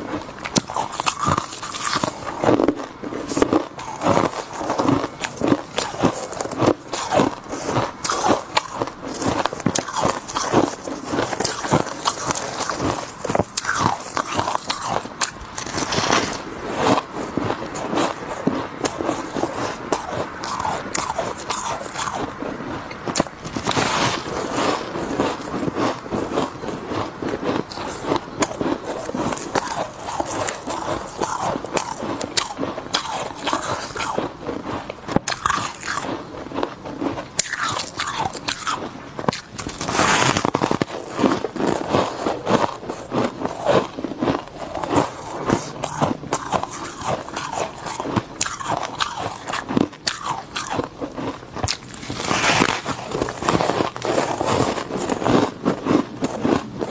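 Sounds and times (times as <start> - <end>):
frost crunching being chewed: 0.0 - 56.9.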